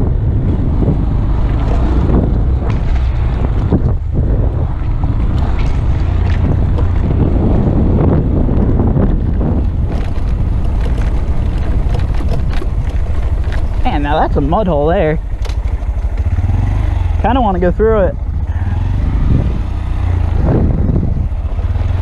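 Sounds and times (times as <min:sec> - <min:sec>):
minibike engine running: 0:00.0 - 0:22.0
wind buffeting microphone: 0:00.0 - 0:22.0.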